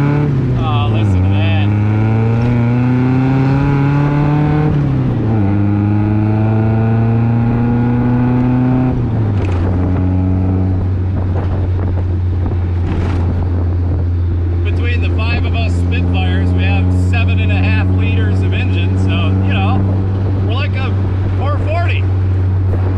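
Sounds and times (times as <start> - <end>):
car engine running: 0.0 - 22.9.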